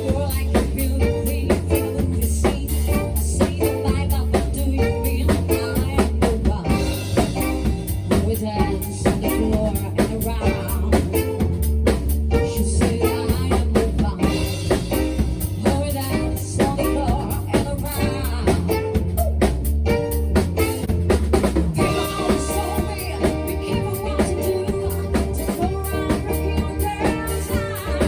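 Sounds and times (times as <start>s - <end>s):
drum kit beat: 0.0s - 28.0s
heavy bass line: 0.0s - 28.0s.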